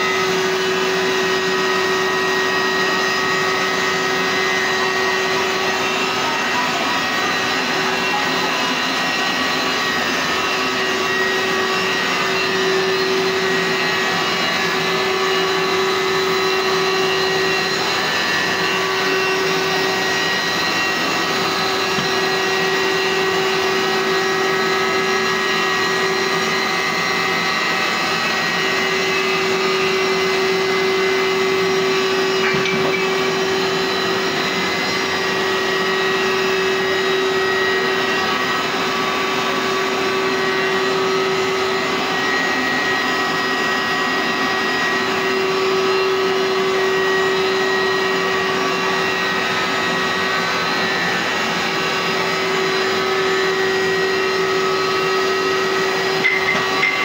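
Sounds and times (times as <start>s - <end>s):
carpet cleaner motor drone: 0.0s - 57.0s.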